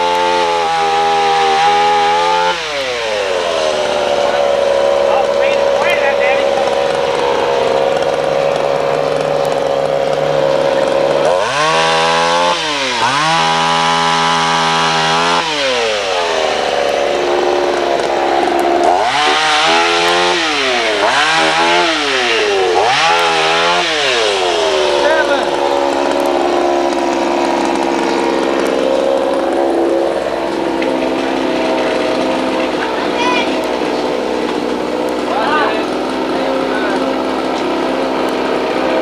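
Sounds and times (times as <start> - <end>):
chainsaw revving: 0.0 - 39.0.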